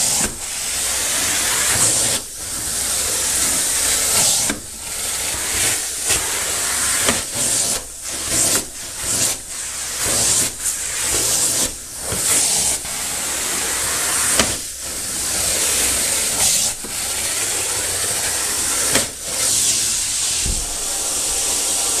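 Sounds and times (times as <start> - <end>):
suction hiss of carpet extractor: 0.0 - 22.0.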